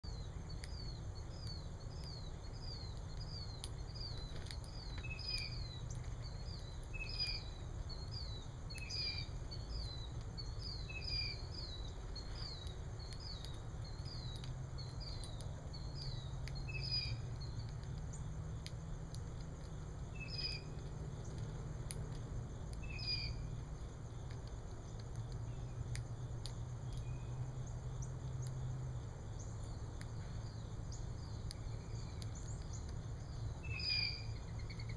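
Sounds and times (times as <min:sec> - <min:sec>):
low background rumble: 0:00.0 - 0:34.9
small bird chirping: 0:00.0 - 0:34.9.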